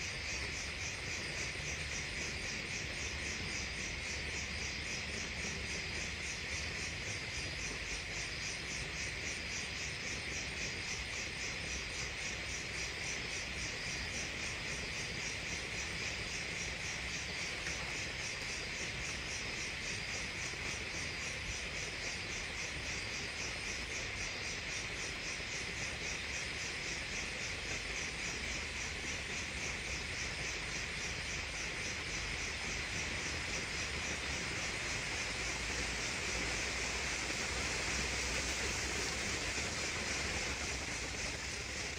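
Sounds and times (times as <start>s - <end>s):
crickets chirping: 0.0s - 41.9s
insects hissing: 0.0s - 41.9s.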